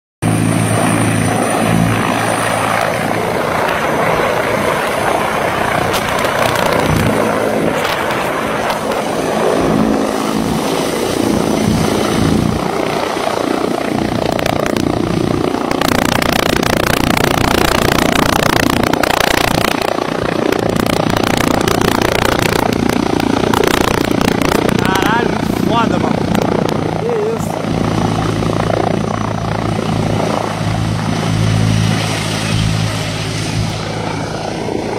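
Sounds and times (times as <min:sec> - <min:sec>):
helicopter rotor and turbine: 0:00.2 - 0:34.9.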